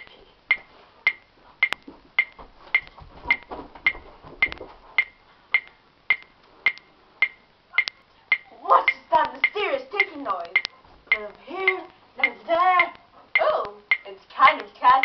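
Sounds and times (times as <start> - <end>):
steady sharp ticking: 0.0 - 15.0.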